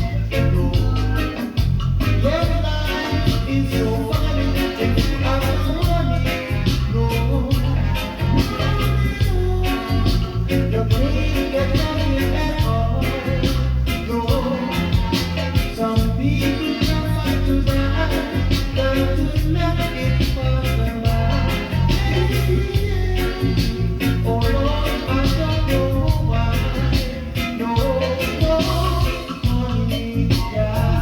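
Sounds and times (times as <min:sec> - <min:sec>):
reggae music with heavy bass: 0:00.0 - 0:31.0.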